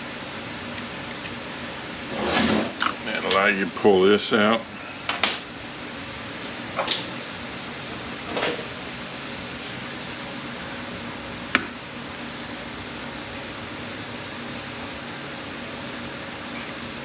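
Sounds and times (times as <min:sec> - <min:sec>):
fan hum: 0:00.0 - 0:17.0.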